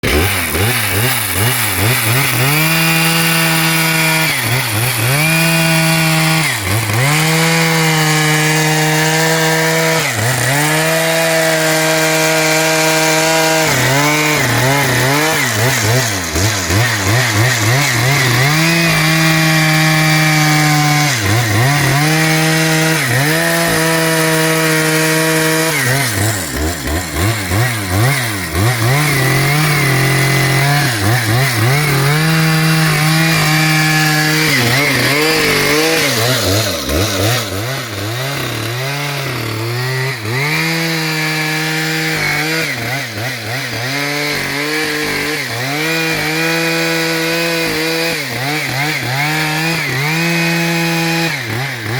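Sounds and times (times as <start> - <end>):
chainsaw cutting roots: 0.0 - 51.9.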